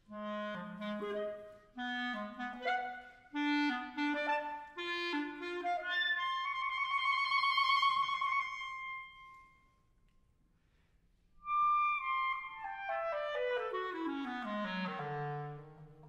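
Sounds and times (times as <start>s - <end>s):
solo wind instrument: 0.0s - 9.9s, 11.4s - 16.0s.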